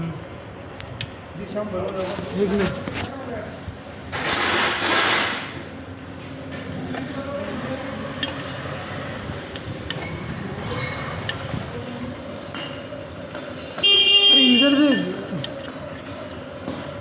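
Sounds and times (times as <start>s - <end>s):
workshop background noise: 0.0s - 17.0s.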